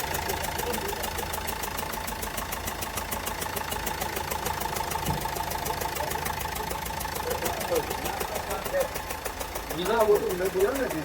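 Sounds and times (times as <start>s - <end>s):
diesel engine idling with knocking: 0.0s - 11.0s.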